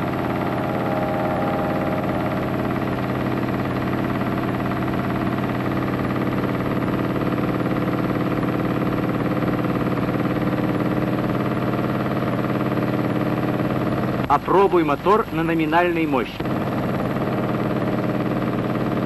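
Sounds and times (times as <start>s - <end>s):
aircraft engine running: 0.0s - 19.0s.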